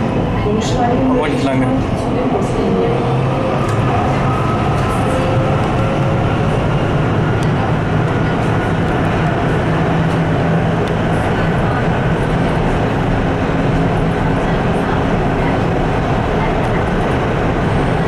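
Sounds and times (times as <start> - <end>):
train rumbling through tunnel: 0.0 - 18.0.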